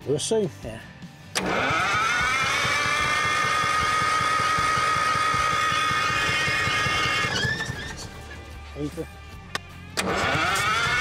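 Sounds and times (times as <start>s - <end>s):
diesel engine turning over: 1.3s - 11.0s
electric starter whine: 1.3s - 11.0s.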